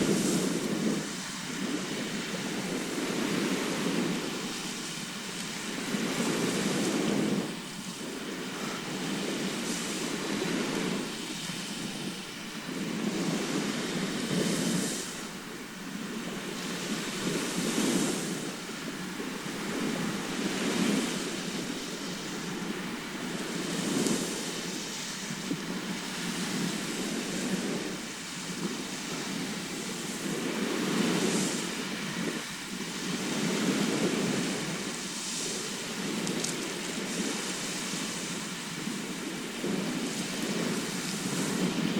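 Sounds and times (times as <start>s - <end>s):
sea waves washing onto shore: 0.0s - 41.9s.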